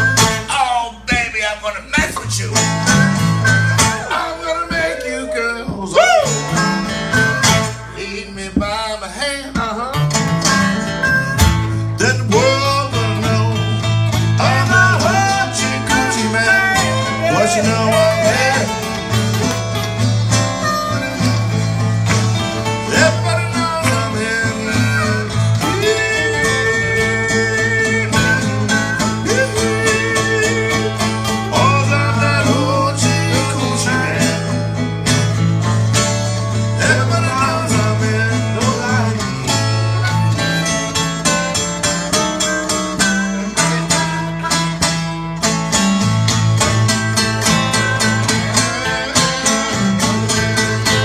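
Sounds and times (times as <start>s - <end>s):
acoustic guitars: 0.0s - 51.0s
harmonica blues solo: 2.1s - 8.0s, 9.9s - 51.0s.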